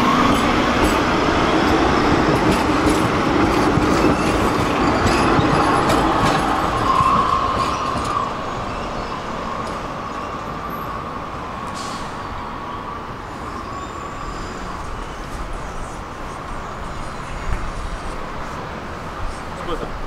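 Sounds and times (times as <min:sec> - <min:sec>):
tram high steady whine: 0:00.0 - 0:20.0
tram wheels rumbling on rails: 0:00.0 - 0:20.0.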